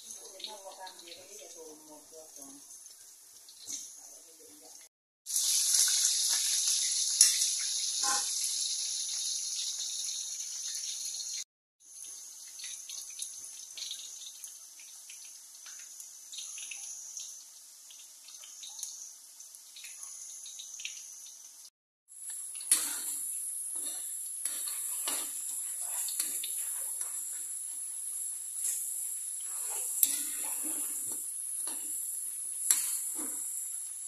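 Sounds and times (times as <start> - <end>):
potatoes sizzling in hot oil: 0.0 - 34.0.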